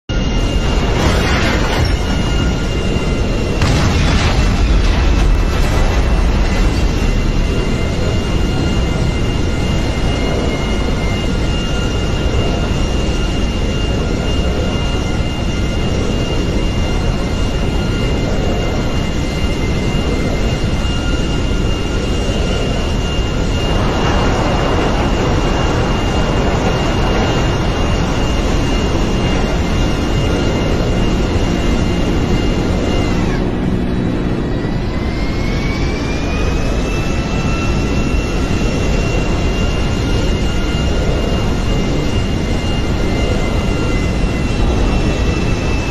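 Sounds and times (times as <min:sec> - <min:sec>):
jet engine whine and roar: 0:00.0 - 0:45.9.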